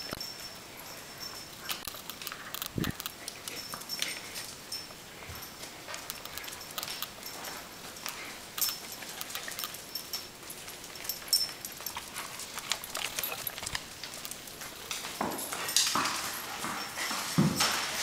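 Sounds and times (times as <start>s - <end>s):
dog claws clicking on tile: 1.6s - 4.5s, 5.6s - 18.0s.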